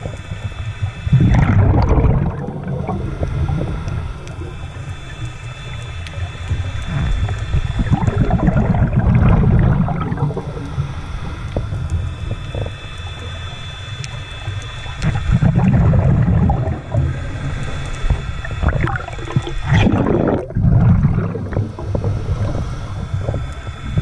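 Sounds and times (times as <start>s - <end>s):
diver's bubbles gurgling underwater: 0.0s - 13.4s, 14.0s - 24.0s
faint steady tones: 0.0s - 24.0s.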